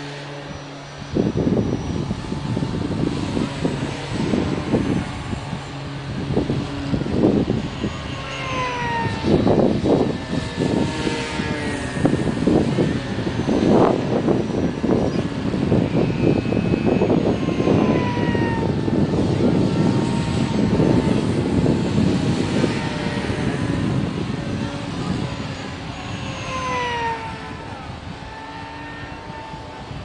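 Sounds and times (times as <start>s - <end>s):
model planes whining past: 0.0s - 30.0s.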